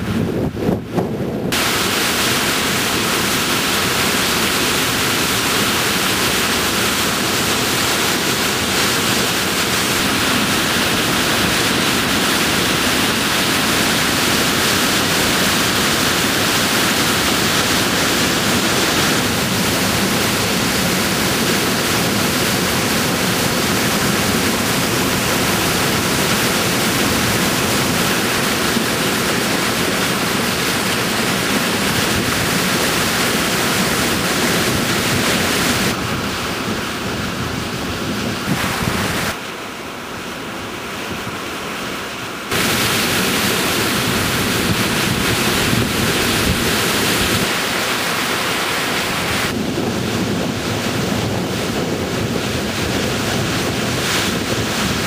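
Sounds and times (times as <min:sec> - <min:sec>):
waterfall rushing: 0:01.5 - 0:55.0.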